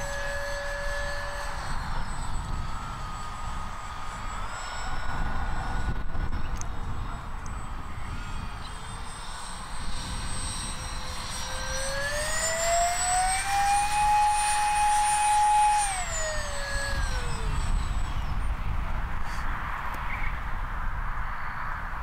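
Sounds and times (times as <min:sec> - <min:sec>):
electric ducted fan whining: 0:00.0 - 0:21.2.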